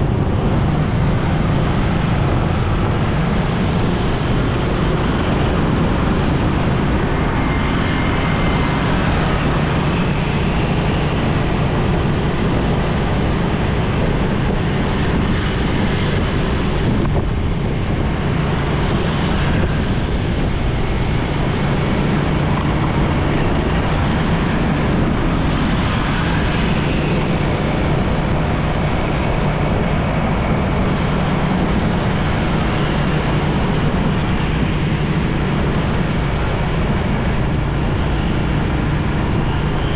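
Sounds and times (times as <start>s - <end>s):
motorcycle engine drone: 0.0s - 39.9s
wind noise on microphone: 0.0s - 39.9s.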